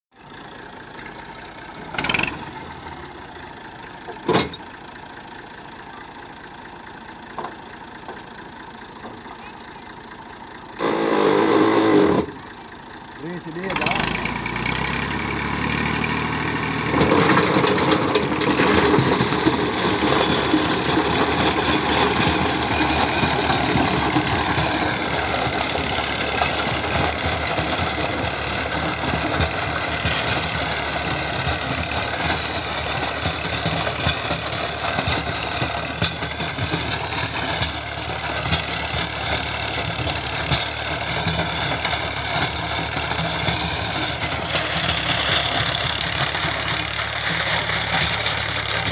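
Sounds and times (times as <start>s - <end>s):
tractor diesel engine running: 0.1s - 48.9s.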